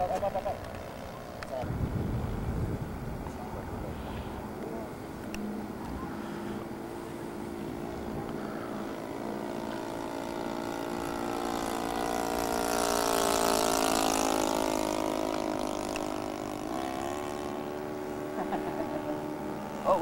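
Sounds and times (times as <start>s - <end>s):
model plane engine droning: 0.0s - 20.0s.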